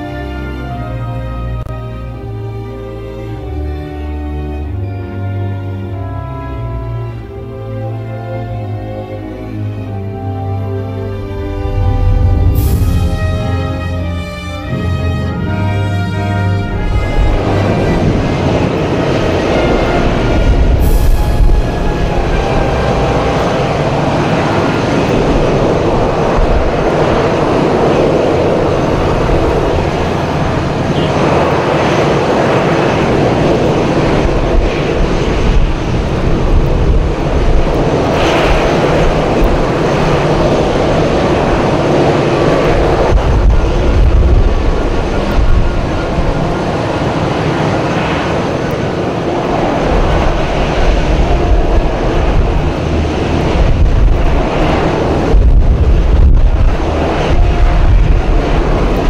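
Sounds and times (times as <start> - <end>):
jet engines running: 0.0 - 59.0
wind buffeting microphone: 1.6 - 59.0.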